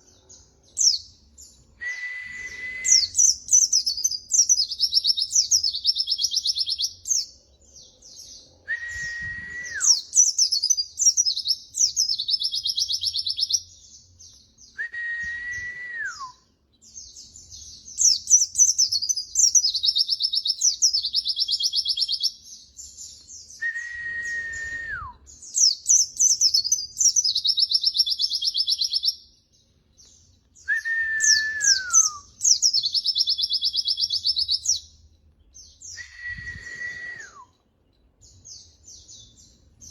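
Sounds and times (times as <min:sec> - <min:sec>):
bird twittering and trilling: 0:00.0 - 0:01.8, 0:02.9 - 0:14.8, 0:16.5 - 0:39.9
low clear bird whistle: 0:00.0 - 0:29.3, 0:30.0 - 0:34.9, 0:35.5 - 0:37.7.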